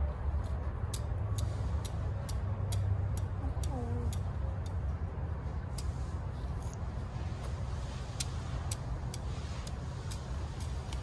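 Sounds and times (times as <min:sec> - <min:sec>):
steady low rumble: 0:00.0 - 0:11.0
regular sharp ticking: 0:00.4 - 0:11.0.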